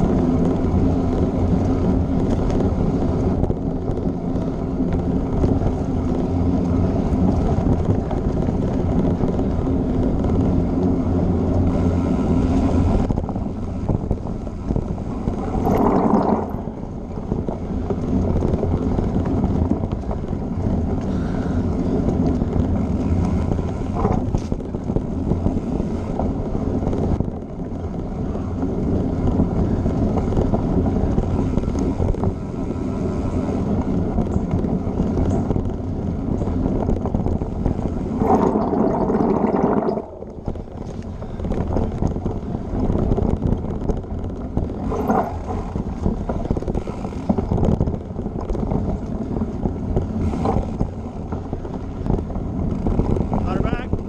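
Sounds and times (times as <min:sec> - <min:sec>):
bike tyres rumbling on dirt: 0:00.0 - 0:54.0
wind rushing over microphone: 0:00.0 - 0:54.0.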